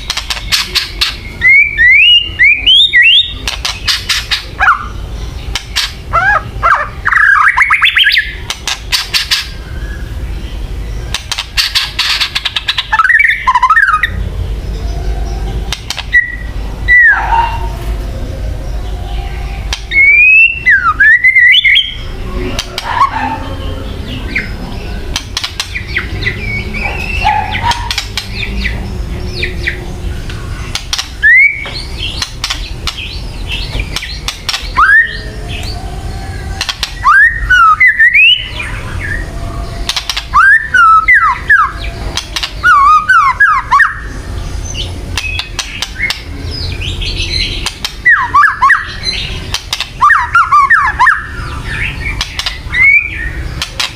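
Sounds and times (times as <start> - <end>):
whistled bird notes: 0.0 - 10.2, 11.1 - 29.8, 30.4 - 49.4, 50.0 - 53.8
harsh rattling bird calls: 0.0 - 53.9.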